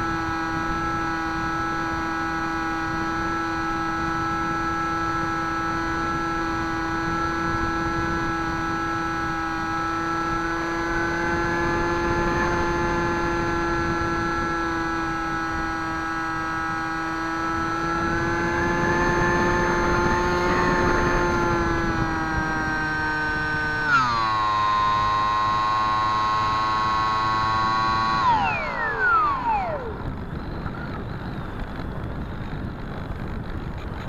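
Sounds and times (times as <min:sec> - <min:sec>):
electric motor and propeller whining: 0:00.0 - 0:34.0.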